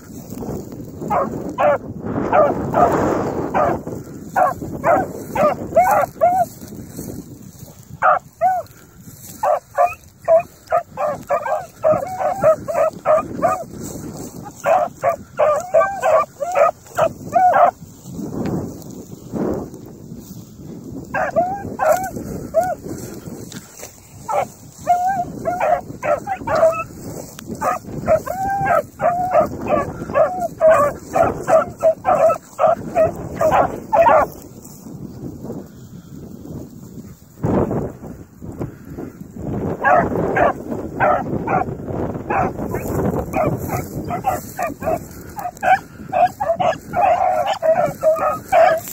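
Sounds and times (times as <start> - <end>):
dry grass rustling: 0.0 - 48.9
hounds yelping and baying: 0.9 - 18.0, 21.0 - 34.8, 39.7 - 48.9.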